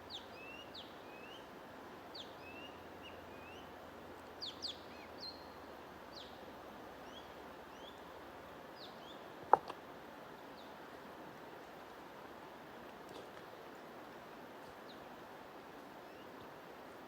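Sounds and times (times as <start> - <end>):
white-noise hiss: 0.0 - 17.0.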